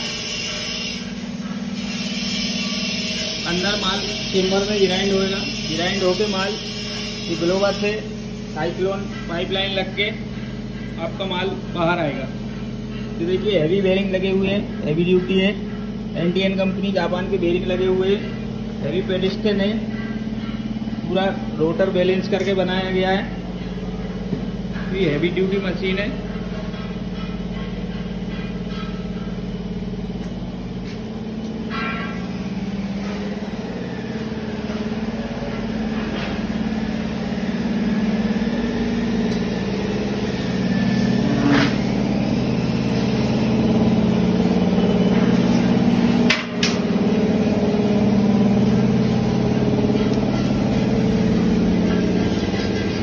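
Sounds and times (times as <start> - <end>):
workshop machinery humming: 0.0 - 53.0.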